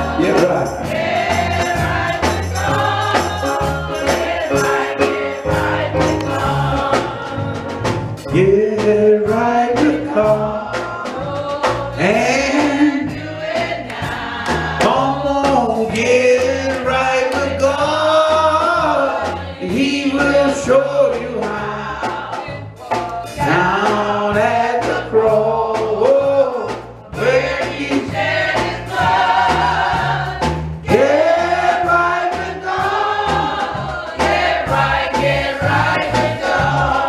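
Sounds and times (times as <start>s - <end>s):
band playing: 0.0s - 37.0s
bass line: 0.0s - 37.0s
gospel choir singing a hymn: 0.0s - 37.0s.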